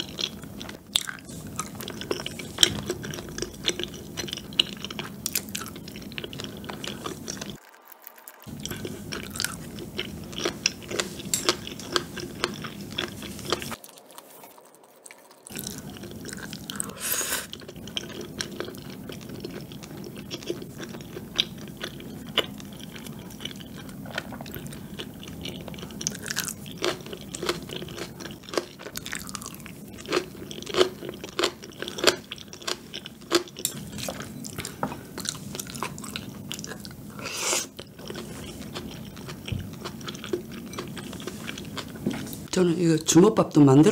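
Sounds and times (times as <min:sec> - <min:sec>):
close chewing and biting: 0:00.0 - 0:37.0, 0:37.6 - 0:42.5.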